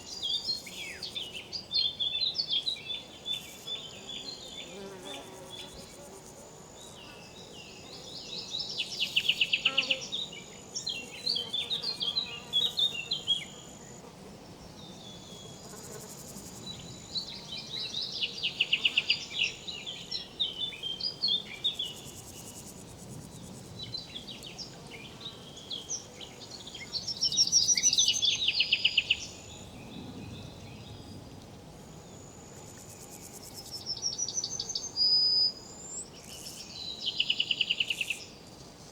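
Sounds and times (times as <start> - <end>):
insects buzzing: 0.0 - 29.7, 35.7 - 38.9
insect chirps and trills: 0.0 - 38.9.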